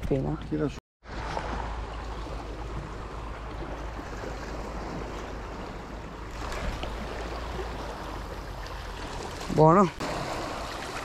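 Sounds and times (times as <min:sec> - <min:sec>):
sea surf on shore: 0:01.0 - 0:11.0.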